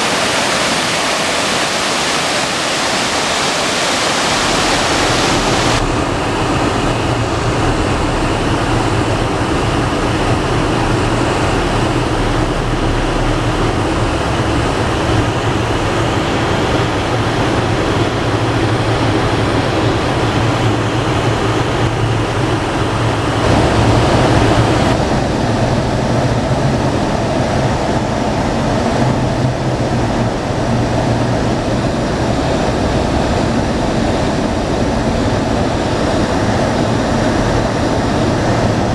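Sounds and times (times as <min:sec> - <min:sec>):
wind and road noise: 0:00.0 - 0:38.9
engine low hum: 0:04.2 - 0:38.9.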